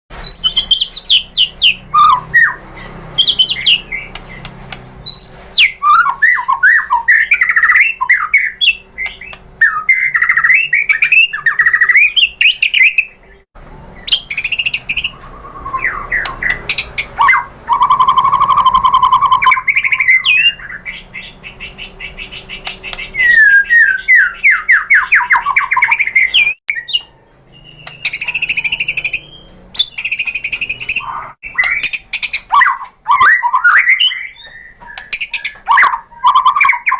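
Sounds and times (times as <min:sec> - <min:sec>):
bird singing whistles and trills: 0:00.2 - 0:36.9.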